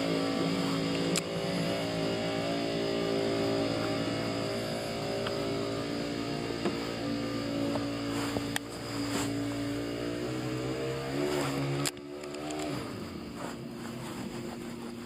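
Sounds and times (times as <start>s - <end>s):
boat motor running: 0.0s - 15.0s
motor slowing down: 0.0s - 15.0s.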